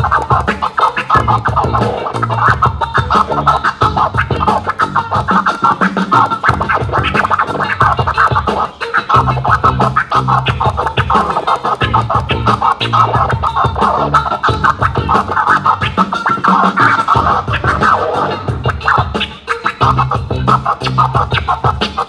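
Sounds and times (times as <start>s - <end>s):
bass line: 0.0s - 5.3s, 6.1s - 11.2s, 11.8s - 16.0s, 16.8s - 19.2s, 19.8s - 21.9s
hip hop beat: 0.0s - 22.0s
vinyl record scratching: 0.0s - 22.0s.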